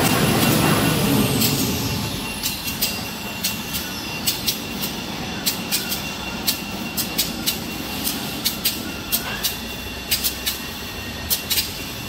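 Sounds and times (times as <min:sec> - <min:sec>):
machine mechanical hum: 0:00.0 - 0:12.0
sharp machine clicks: 0:00.0 - 0:12.0.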